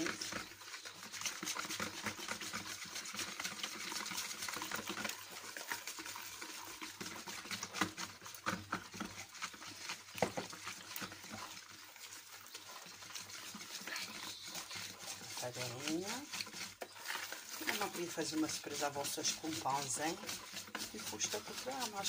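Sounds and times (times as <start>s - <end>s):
hand whisk stirring batter: 0.0s - 22.0s.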